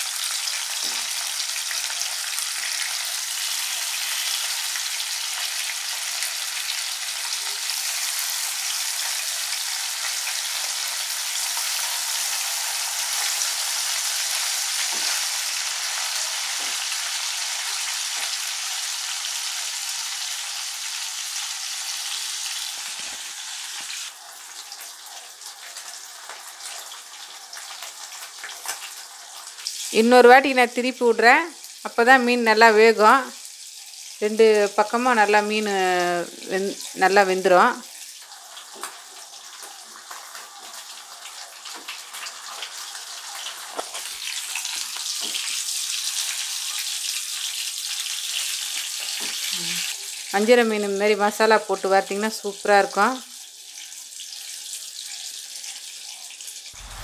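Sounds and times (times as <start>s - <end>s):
fish sizzling in oil: 0.0s - 57.0s.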